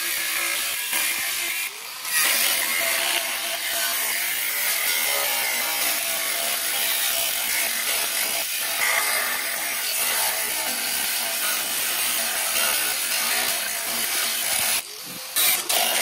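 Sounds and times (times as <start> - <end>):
angle grinder cutting steel: 0.0 - 16.0.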